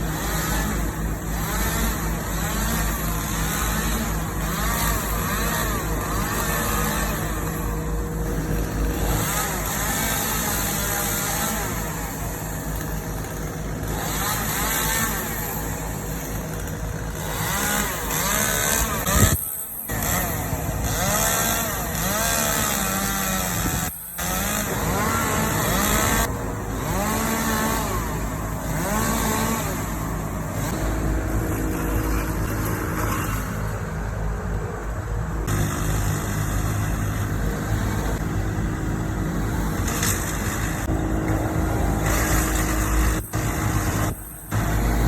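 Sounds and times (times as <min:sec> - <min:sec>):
chainsaw engine revving: 0:00.0 - 0:45.0.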